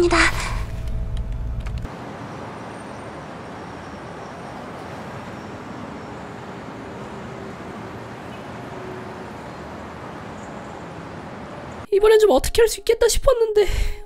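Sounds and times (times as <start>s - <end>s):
distant road traffic: 0.6s - 11.9s.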